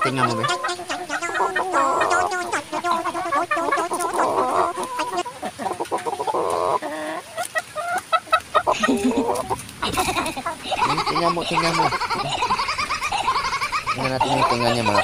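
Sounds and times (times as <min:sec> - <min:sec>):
chicken clucking: 0:00.0 - 0:15.0.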